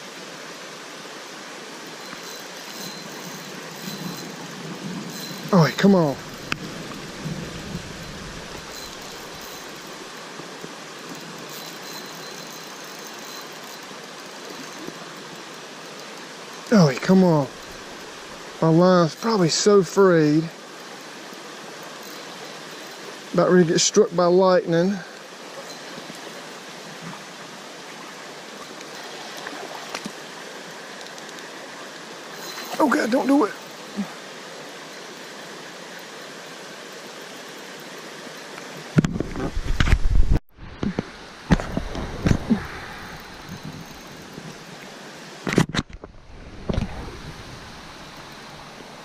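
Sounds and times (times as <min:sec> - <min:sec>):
water rushing: 0:00.0 - 0:49.0.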